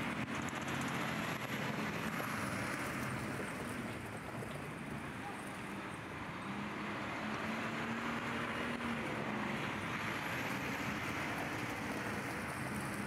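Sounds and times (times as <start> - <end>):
truck engine hum: 0.0 - 13.0.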